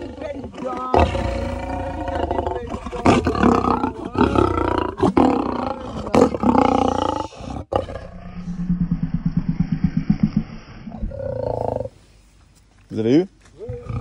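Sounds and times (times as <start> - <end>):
lion growling: 0.0 - 12.0.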